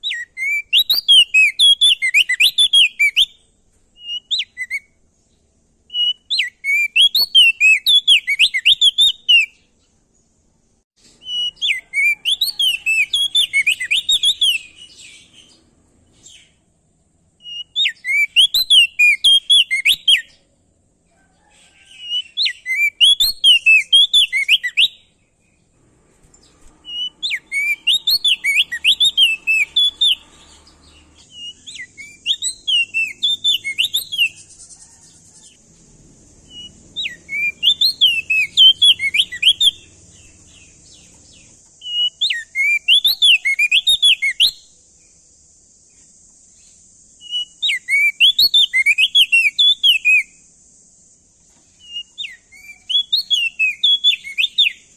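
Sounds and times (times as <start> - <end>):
bird singing whistled notes: 0.0 - 10.0, 11.0 - 16.6, 17.4 - 20.6, 21.4 - 35.6, 36.4 - 45.2, 46.5 - 50.6, 51.7 - 54.9
faint high hiss: 0.0 - 54.9.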